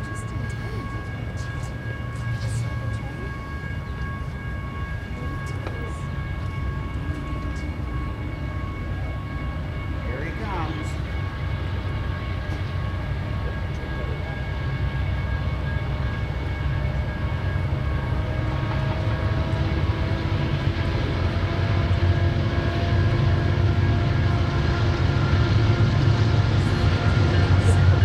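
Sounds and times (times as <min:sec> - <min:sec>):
locomotive engine rumble: 0:00.0 - 0:28.0.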